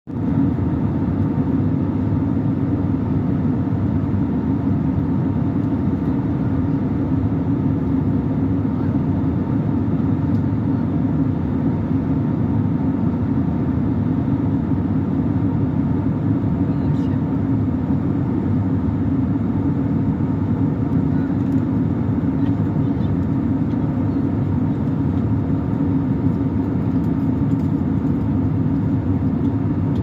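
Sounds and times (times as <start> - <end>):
faint steady whine: 0.1 - 30.0
jet engine cabin drone: 0.1 - 30.0.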